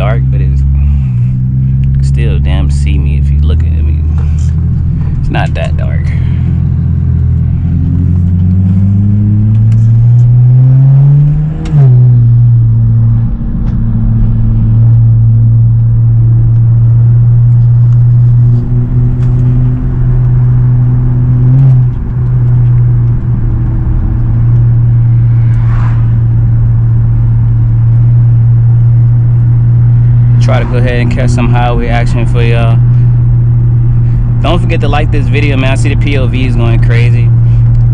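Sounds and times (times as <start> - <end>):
car engine accelerating: 0.0 - 37.9.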